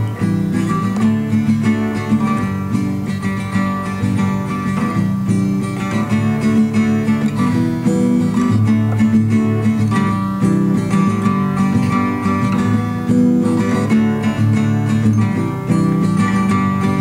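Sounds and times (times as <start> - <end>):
acoustic guitar strummed: 0.0 - 17.0.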